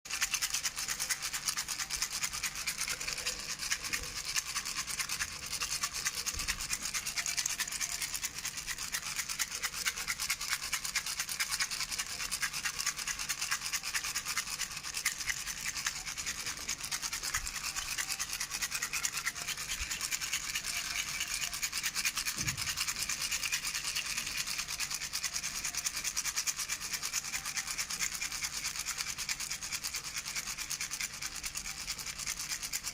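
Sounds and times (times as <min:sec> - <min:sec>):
baby rattle shaken: 0:00.1 - 0:32.9.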